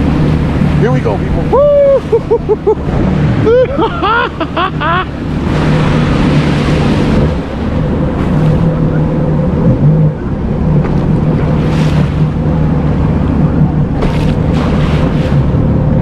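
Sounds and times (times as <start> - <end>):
jet ski engine running: 0.0 - 16.0
wind noise on microphone: 0.0 - 16.0.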